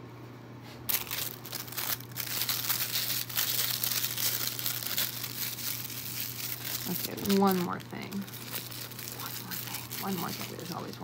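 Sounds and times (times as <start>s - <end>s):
packing material crinkling: 0.9s - 11.0s.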